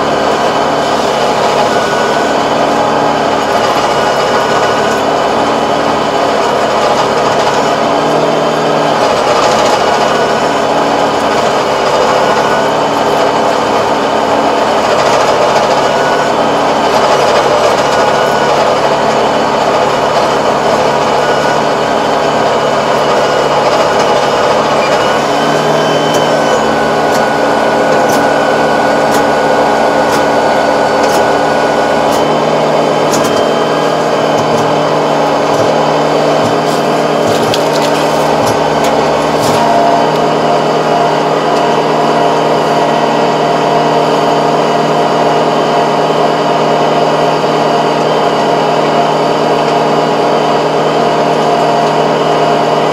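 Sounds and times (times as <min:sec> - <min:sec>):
rotary tiller churning soil: 0:00.0 - 0:52.9
tractor engine running: 0:00.0 - 0:52.9.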